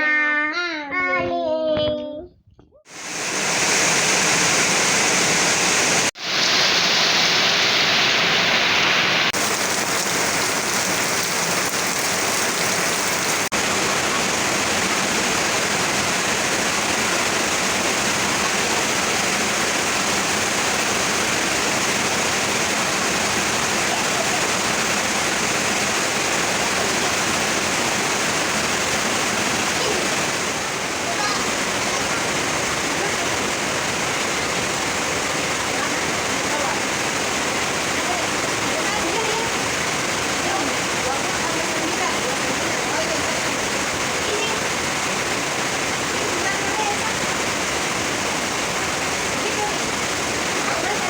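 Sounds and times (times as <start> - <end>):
heavy rain pouring: 2.9 - 51.0.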